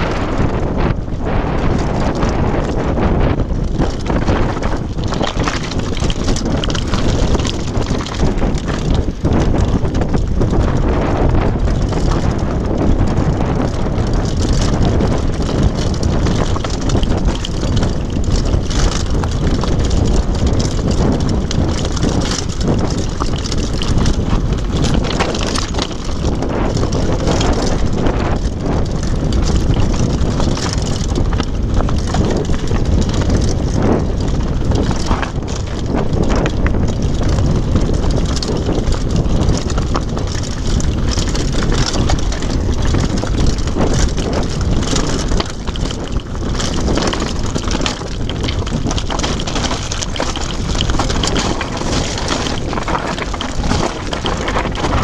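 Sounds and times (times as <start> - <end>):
mountain bike rattling over rocks: 0.0 - 55.0
wind buffeting microphone: 0.0 - 55.0.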